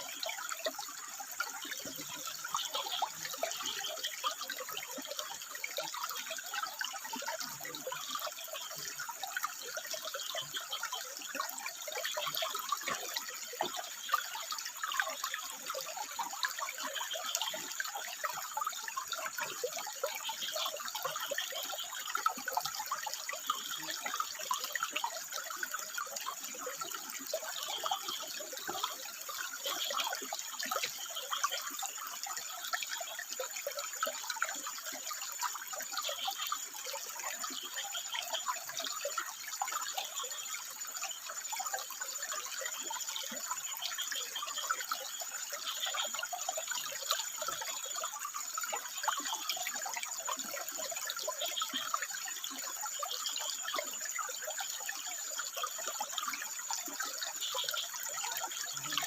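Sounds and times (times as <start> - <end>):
water trickling over rocks: 0.0 - 59.0.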